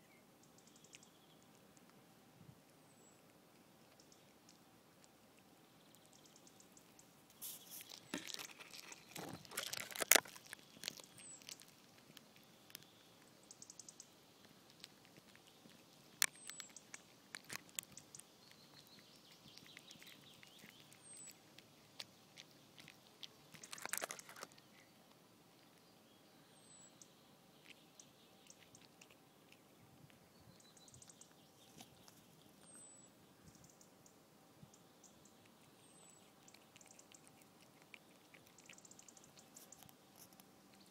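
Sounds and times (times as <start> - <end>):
cat chewing and crunching bones: 0.7 - 40.9.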